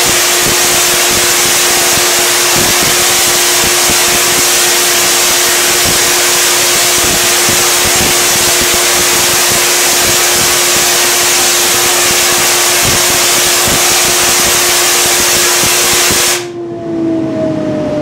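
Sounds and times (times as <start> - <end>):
tesla coil crackling hiss: 0.0 - 16.5
electrical hum: 0.0 - 18.0.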